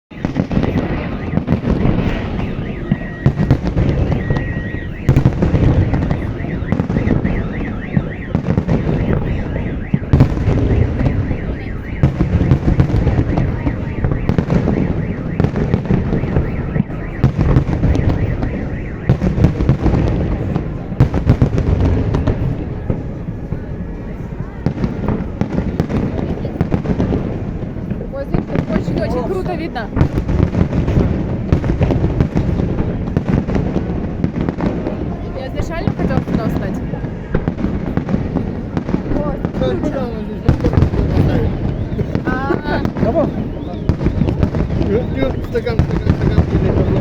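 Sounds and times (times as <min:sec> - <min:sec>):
fireworks booming and crackling: 0:00.1 - 0:47.0.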